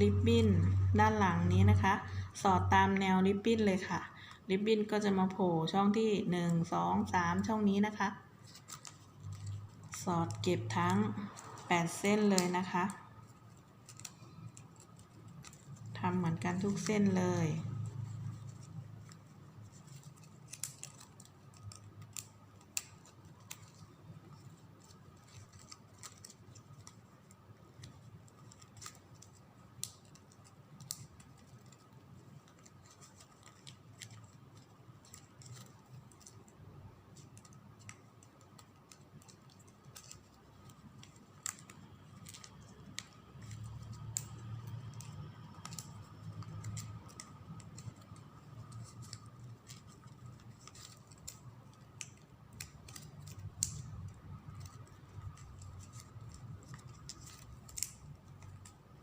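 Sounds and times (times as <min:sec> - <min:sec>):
faint low hum: 0:00.0 - 0:59.0
ribbon rustling: 0:00.0 - 0:59.0.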